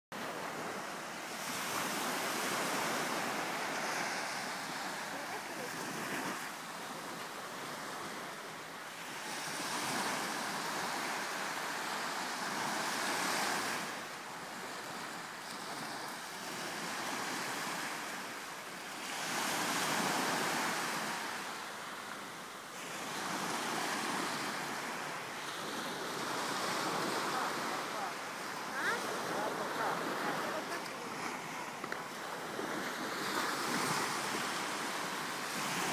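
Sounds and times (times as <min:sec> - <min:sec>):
sea waves washing onto shore: 0:00.2 - 0:35.9.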